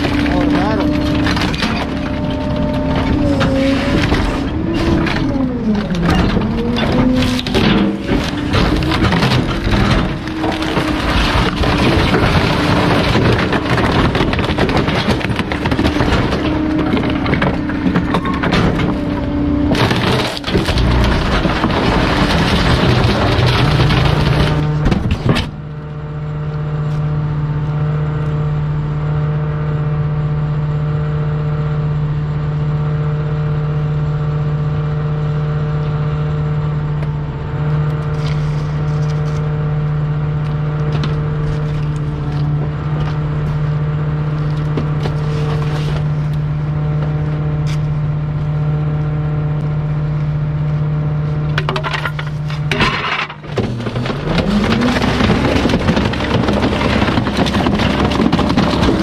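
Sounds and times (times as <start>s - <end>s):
truck engine humming: 0.0s - 59.0s.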